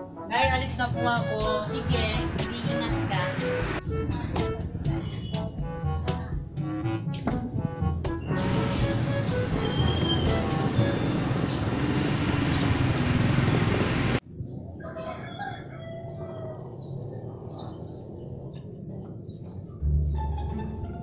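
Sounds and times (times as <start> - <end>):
outdoor ambience: 0.0 - 21.0.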